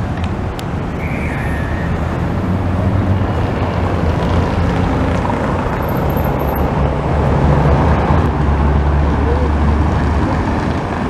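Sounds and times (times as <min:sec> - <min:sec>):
rumble of passing cars: 0:00.0 - 0:11.0.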